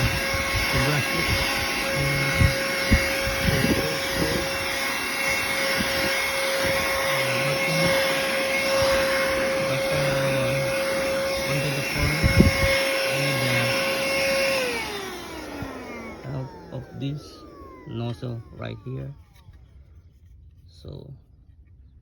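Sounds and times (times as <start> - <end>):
handheld vacuum cleaner running: 0.0 - 19.7.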